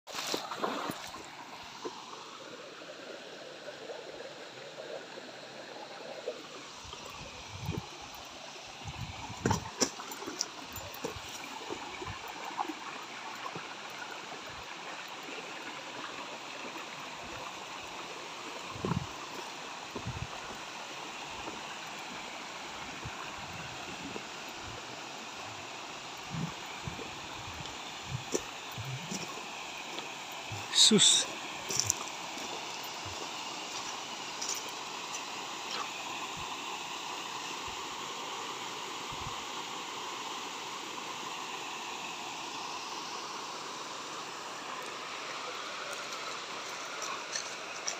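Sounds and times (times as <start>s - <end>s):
creek running over rocks: 0.1s - 47.9s
small waterfall splashing: 0.1s - 47.9s.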